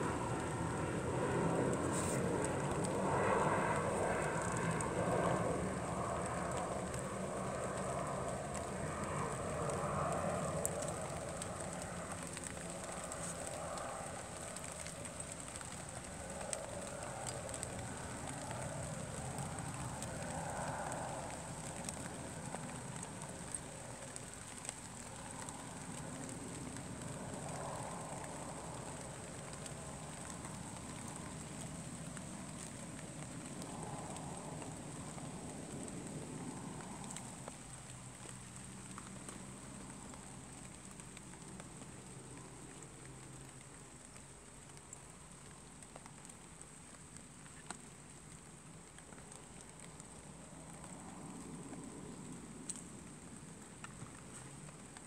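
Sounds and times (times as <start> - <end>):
even outdoor hiss: 0.0 - 55.0
faint scattered clicks: 0.1 - 55.0
faint ticks: 1.2 - 55.0.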